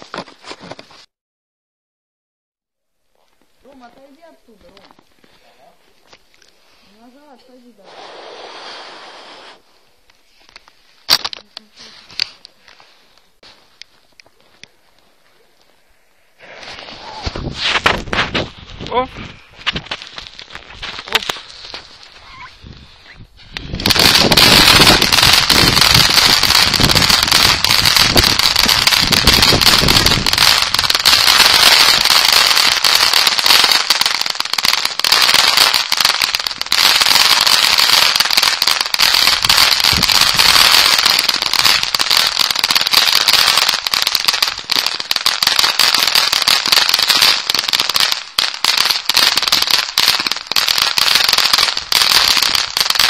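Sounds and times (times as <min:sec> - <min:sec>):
firework hissing and crackling: 0:03.6 - 0:13.9, 0:15.1 - 0:53.0.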